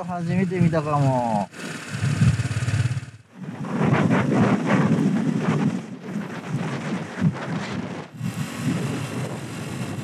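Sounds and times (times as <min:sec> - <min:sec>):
wind buffeting microphone: 0:01.8 - 0:10.0.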